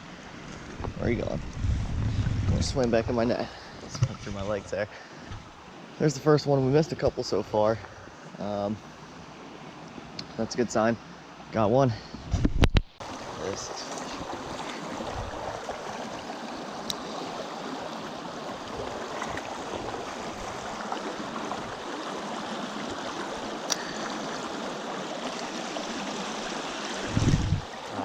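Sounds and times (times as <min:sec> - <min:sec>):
stream running over rocks: 0:00.0 - 0:11.6, 0:12.9 - 0:28.0.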